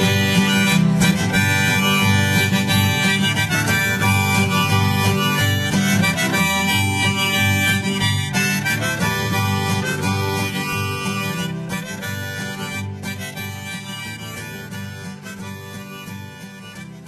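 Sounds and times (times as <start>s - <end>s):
instrumental acoustic folk music: 0.0s - 17.0s.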